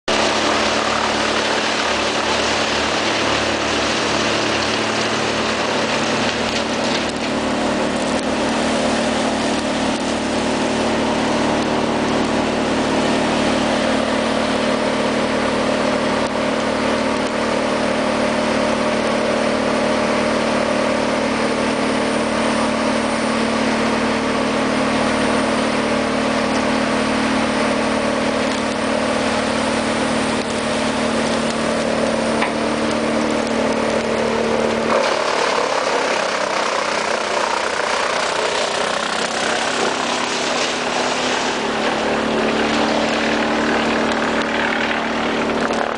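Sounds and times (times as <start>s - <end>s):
diesel engines humming: 0.1s - 45.9s.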